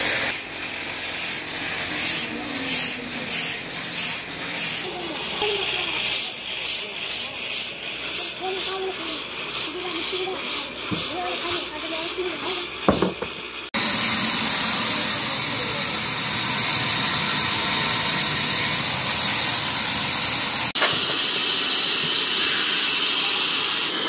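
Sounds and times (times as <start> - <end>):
band saw running: 0.0 - 24.0.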